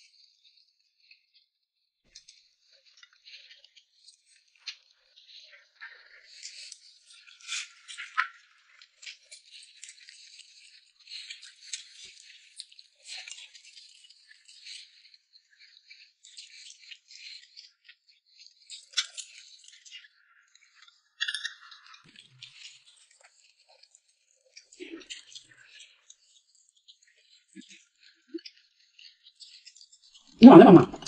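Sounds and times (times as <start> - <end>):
people chewing soft food: 2.2 - 31.0.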